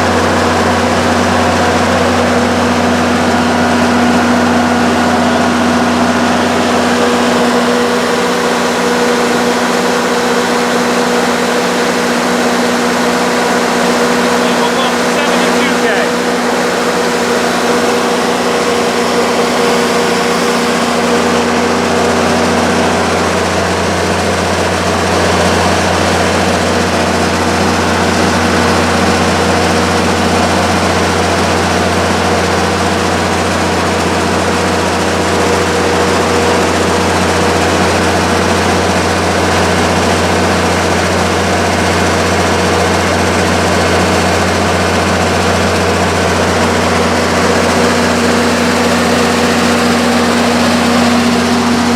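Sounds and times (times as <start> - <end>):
diesel generator humming: 0.0 - 51.9.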